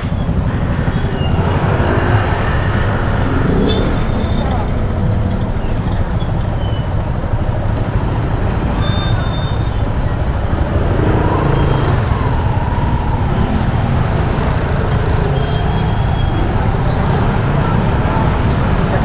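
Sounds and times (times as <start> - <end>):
motorcycle engine rumble: 0.0 - 19.0
traffic: 0.0 - 19.0
wind and road noise: 0.0 - 19.0.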